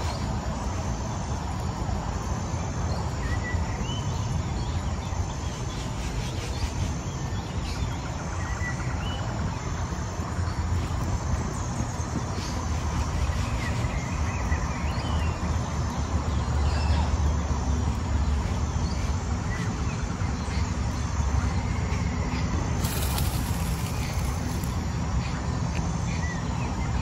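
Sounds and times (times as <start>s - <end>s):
low rumble with hiss: 0.0s - 27.0s.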